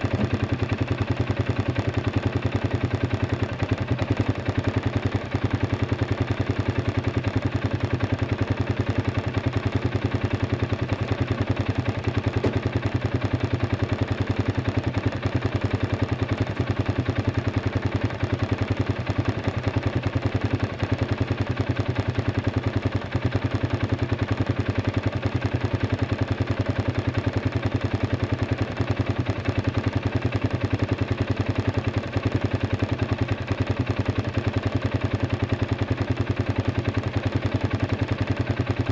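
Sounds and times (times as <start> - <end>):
atv engine idling: 0.0 - 38.9.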